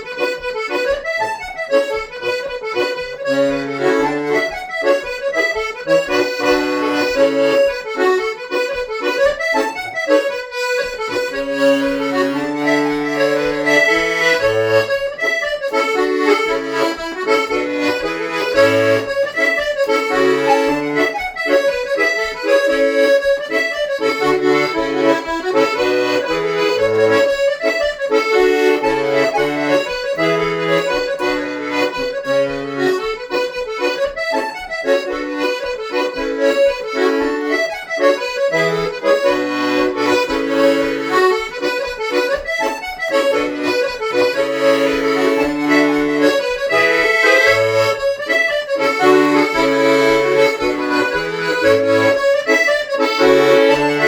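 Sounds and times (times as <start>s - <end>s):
accordion playing a dance tune: 0.0s - 54.0s.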